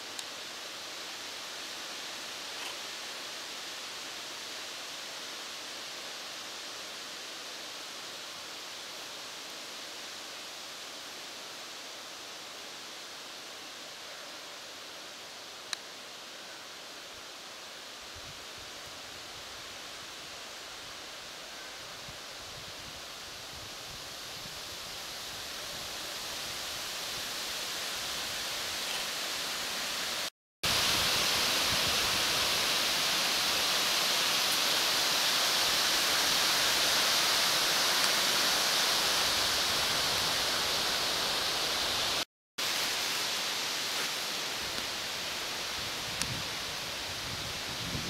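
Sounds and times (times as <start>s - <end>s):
wind through leaves: 0.0s - 48.0s.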